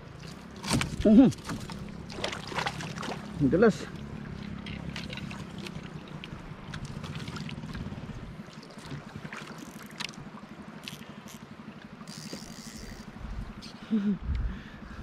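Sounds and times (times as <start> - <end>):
splashes: 0.0 - 13.0
low fast pulsing hum: 0.0 - 15.0
water lapping against hull: 0.0 - 15.0.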